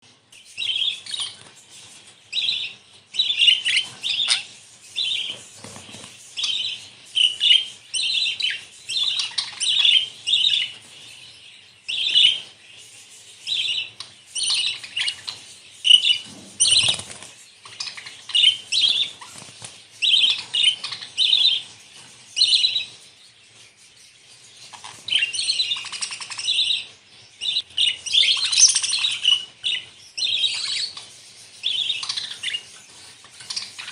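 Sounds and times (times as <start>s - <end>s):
budgerigars chirping and warbling: 0.1s - 33.9s.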